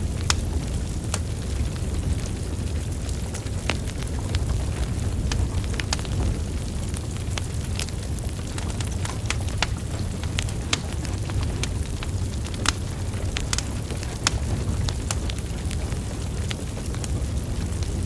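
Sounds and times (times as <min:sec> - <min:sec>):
logs crackling and popping: 0:00.0 - 0:18.0
low rumble of flames: 0:00.0 - 0:18.0.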